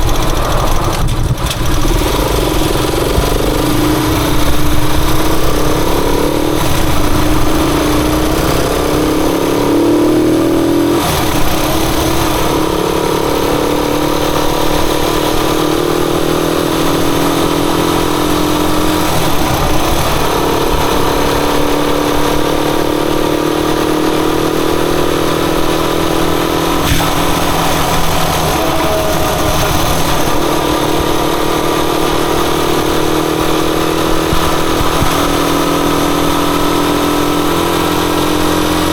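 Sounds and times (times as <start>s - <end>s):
rough rumbling noise: 0.0s - 23.7s, 24.7s - 38.9s
motorcycle engine running: 0.0s - 38.9s.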